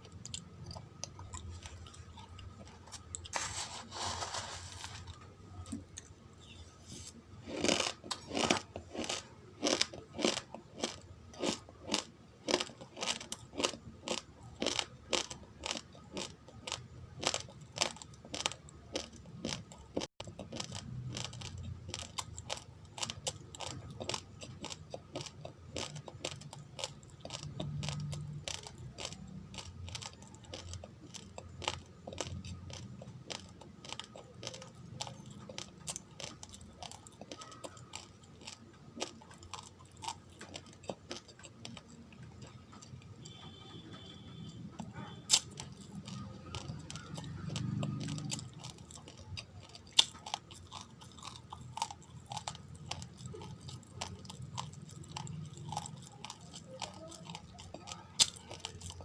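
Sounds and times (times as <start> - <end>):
person chewing rice grains: 0.0 - 59.0.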